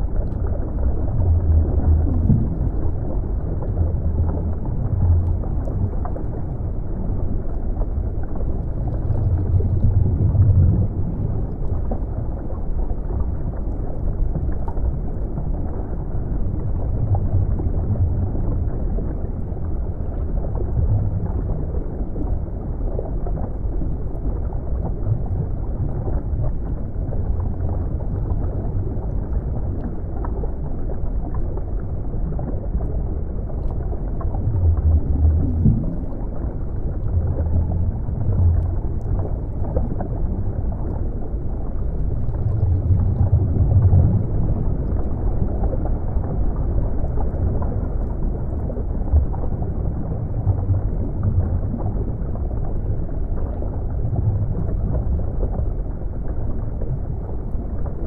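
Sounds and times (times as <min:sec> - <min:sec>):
muffled underwater water rumble: 0:00.0 - 0:58.0.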